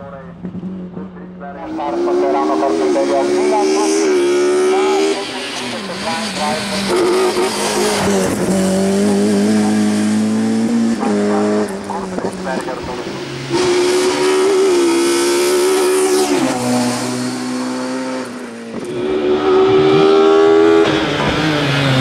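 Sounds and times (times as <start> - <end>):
racing engine at full throttle: 0.0 - 22.0.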